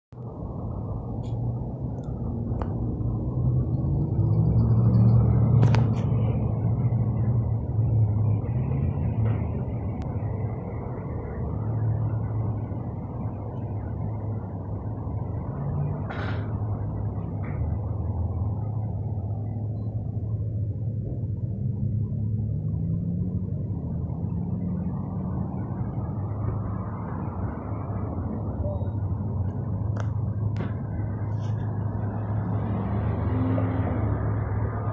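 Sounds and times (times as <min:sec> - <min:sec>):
vehicle engines rumbling: 0:00.1 - 0:34.9.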